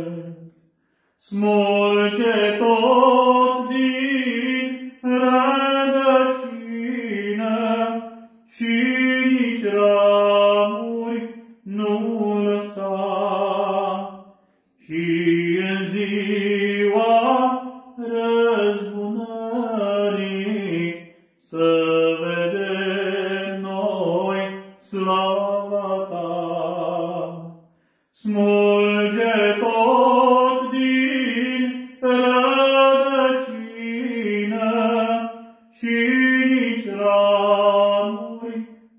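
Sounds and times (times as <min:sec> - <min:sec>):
man singing religious song: 0:00.0 - 0:38.9.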